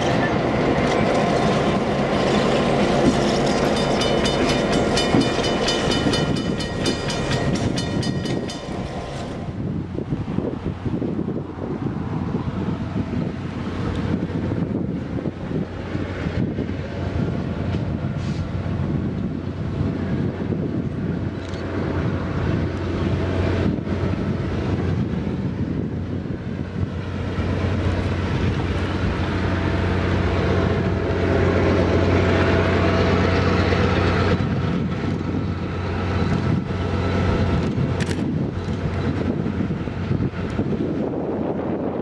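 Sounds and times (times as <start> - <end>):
diesel locomotive engine drone: 0.0 - 42.0
train rumbling past: 0.0 - 42.0.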